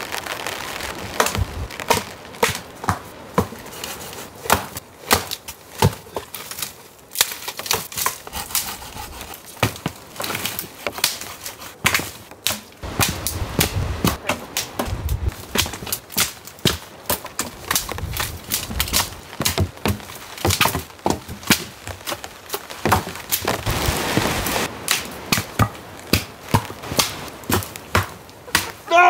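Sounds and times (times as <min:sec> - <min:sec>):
dead branches snapping: 0:00.0 - 0:29.0.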